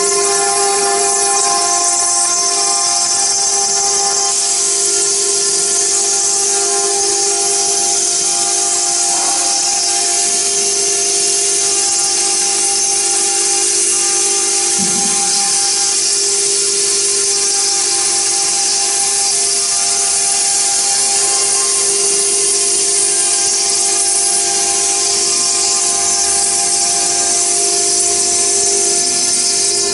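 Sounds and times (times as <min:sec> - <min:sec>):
router spindle whine: 0:00.0 - 0:29.9.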